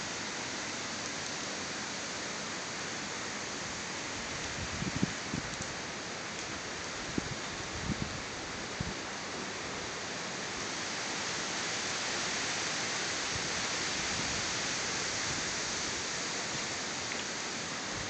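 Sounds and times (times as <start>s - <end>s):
strong wind rushing through trees: 0.0s - 18.0s.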